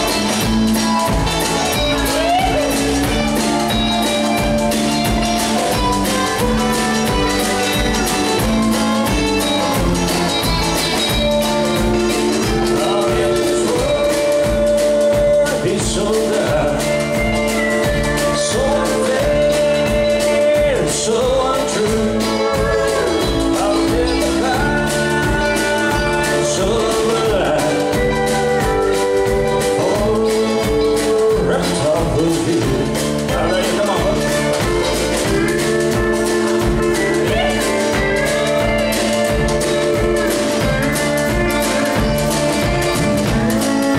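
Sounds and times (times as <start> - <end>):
country band playing: 0.0 - 43.9
drum beat: 0.0 - 43.9
man singing: 0.0 - 43.9.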